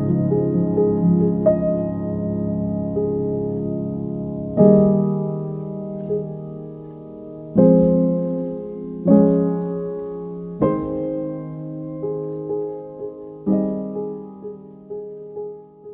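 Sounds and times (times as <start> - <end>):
slow piano music: 0.0 - 15.9.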